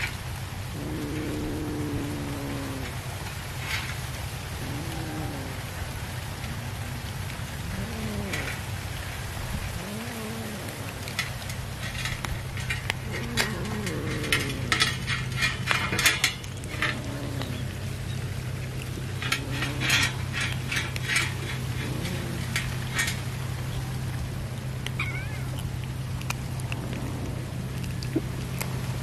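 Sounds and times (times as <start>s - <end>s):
cats lapping at a metal tray: 0.0s - 29.0s.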